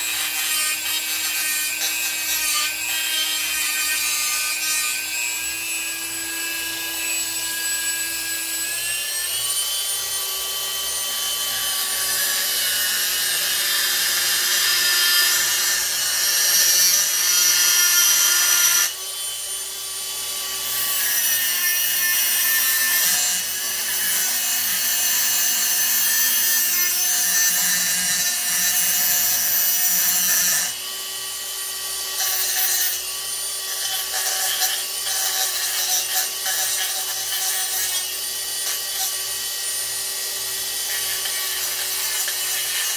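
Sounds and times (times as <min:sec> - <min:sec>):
rotary tool grinding: 0:00.0 - 0:42.9.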